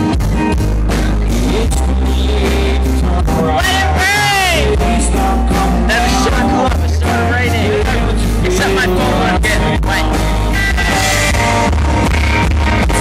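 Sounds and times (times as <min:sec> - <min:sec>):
bending lead melody: 0:00.0 - 0:13.0
country-rock band playing: 0:00.0 - 0:13.0.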